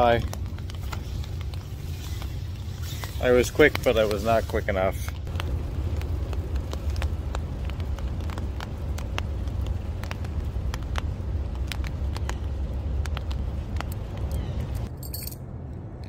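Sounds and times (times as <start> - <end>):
raindrops tapping on a tarp: 0.0 - 14.9
steady low rumble: 0.0 - 16.0.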